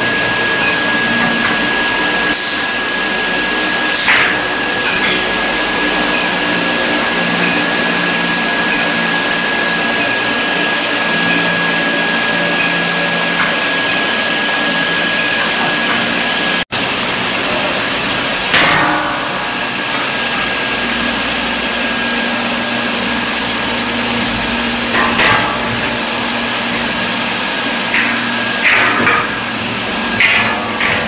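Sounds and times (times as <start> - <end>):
machine noise with high whine: 0.0 - 31.0.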